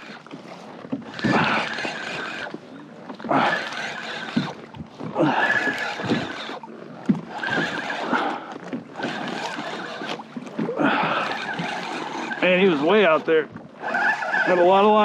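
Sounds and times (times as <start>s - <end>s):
fishing reel cranking whine: 0.0s - 15.0s.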